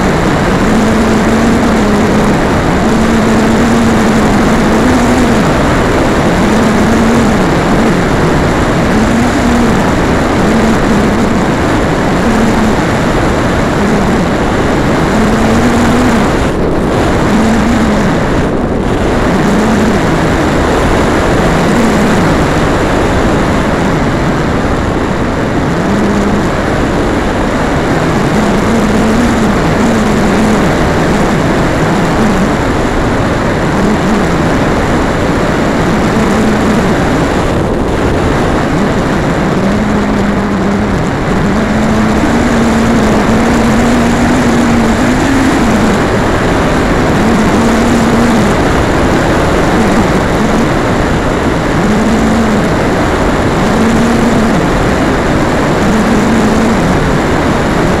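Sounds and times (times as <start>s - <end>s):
low engine hum: 0.0s - 58.0s
wind and propeller rush: 0.0s - 58.0s.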